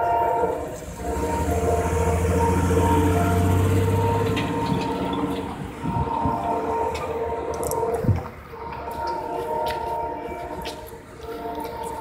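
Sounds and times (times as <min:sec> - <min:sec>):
crossing signal bells ringing: 0:00.0 - 0:12.0
diesel locomotive rumble: 0:00.0 - 0:12.0
passing train rattle: 0:00.0 - 0:12.0.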